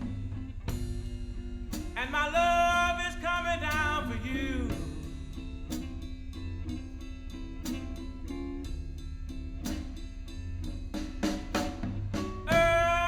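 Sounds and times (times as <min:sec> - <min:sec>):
guitar over bass and drums: 0:00.0 - 0:13.0.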